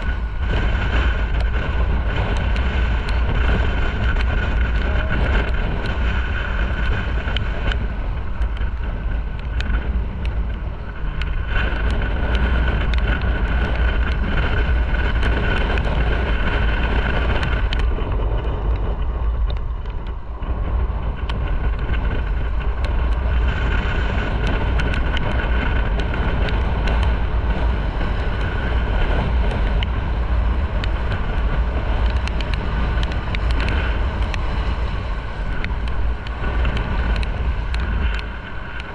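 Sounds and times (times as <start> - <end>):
motorcycle engine running: 0.0 - 38.9
tyres on wet road: 0.0 - 38.9
wind rumbling on microphone: 0.0 - 38.9.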